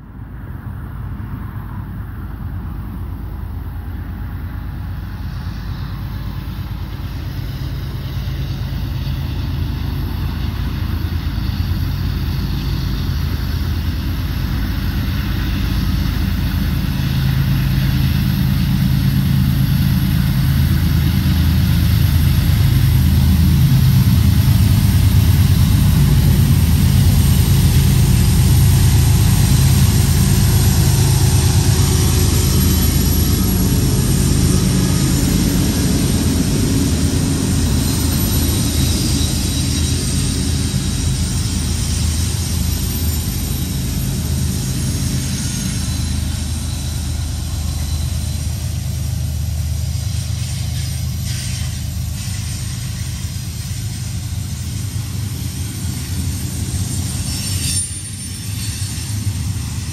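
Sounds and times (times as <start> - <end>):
diesel locomotive engine rumble: 0.0 - 59.9
train wheel and rail noise: 0.0 - 59.9.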